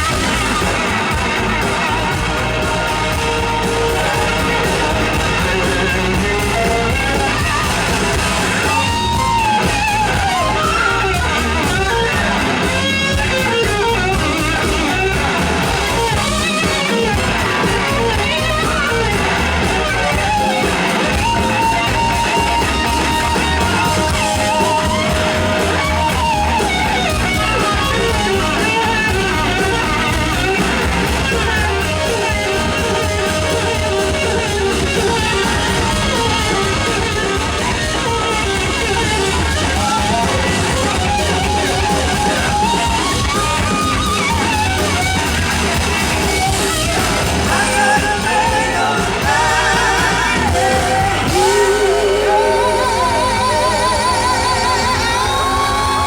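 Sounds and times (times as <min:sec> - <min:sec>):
bass guitar: 0:00.0 - 0:56.0
drums: 0:00.0 - 0:56.0
electric guitar lead: 0:00.0 - 0:56.0.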